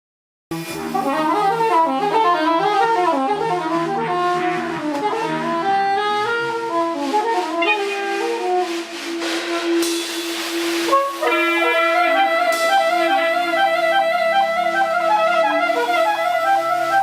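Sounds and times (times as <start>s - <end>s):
saxophone playing rapid runs: 0.5s - 17.0s.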